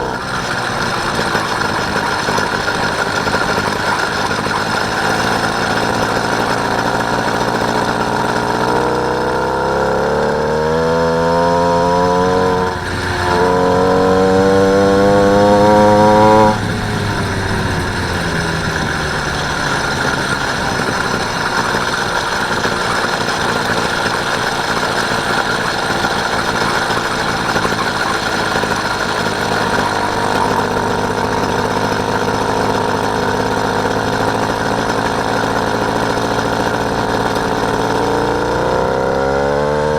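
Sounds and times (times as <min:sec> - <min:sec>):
small engine running and revving: 0:00.0 - 0:39.9.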